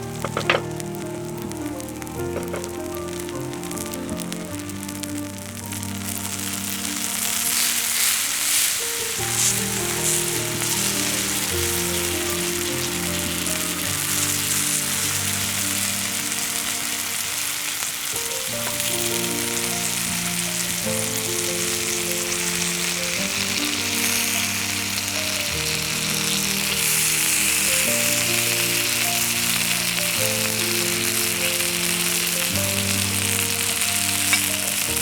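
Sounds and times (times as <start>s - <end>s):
background music of held chords: 0.0s - 35.0s
food sizzling in a frying pan: 0.0s - 35.0s.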